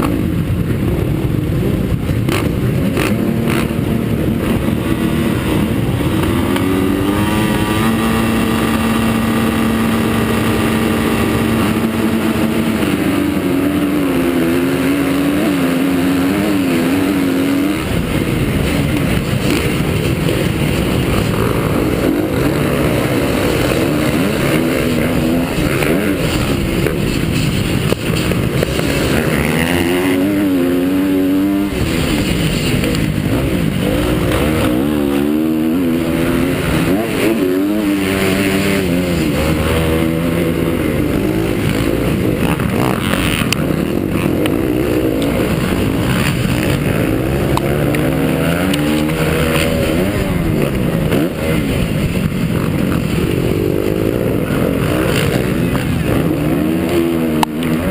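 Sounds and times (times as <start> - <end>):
motocross bike engine revving: 0.0 - 57.9
track noise: 0.0 - 57.9
wind noise: 0.0 - 57.9.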